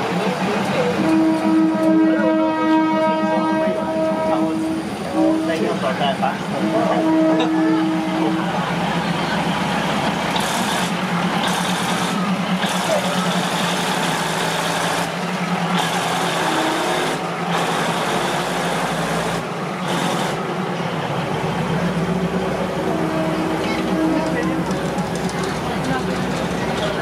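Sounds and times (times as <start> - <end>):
coaches rumbling and hissing: 0.0 - 27.0
train engine hum: 0.0 - 27.0.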